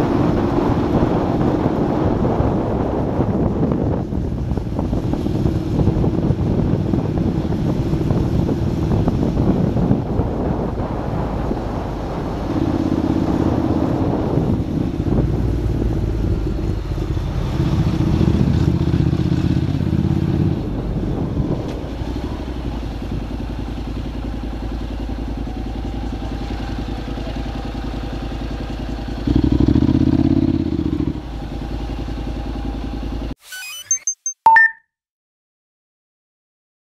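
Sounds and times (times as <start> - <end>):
motorcycle engine running: 0.0 - 33.3.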